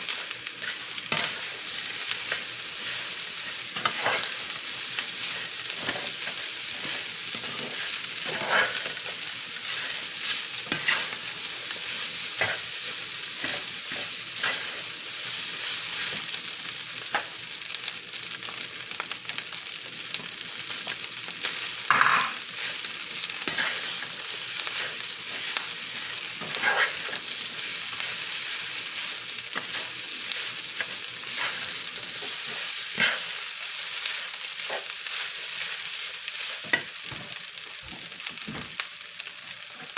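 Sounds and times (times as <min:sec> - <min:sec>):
rice sizzling in a pan: 0:00.0 - 0:39.9.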